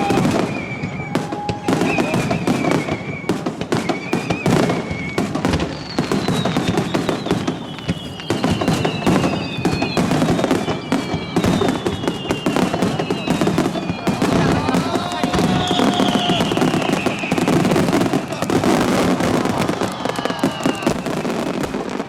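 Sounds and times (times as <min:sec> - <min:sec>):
high whistles gliding down: 0:00.0 - 0:21.8
fireworks crackling and popping: 0:00.0 - 0:22.0.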